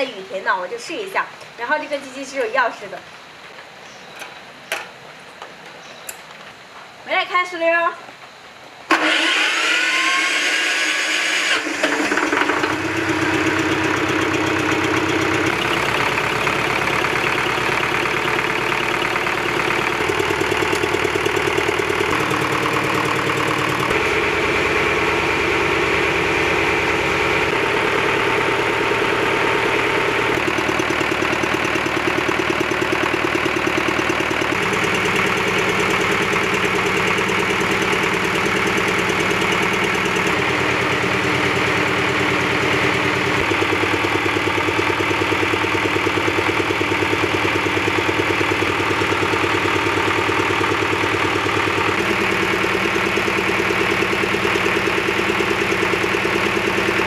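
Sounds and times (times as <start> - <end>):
electric starter whine: 8.5 - 57.0
diesel generator engine running: 8.6 - 57.0.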